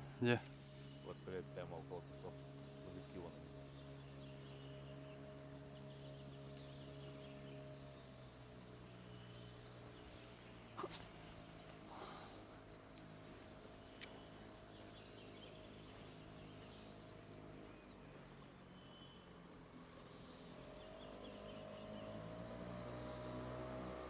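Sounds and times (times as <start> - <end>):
distant engine hum: 0.0 - 24.0
small birds chirping: 0.0 - 24.0.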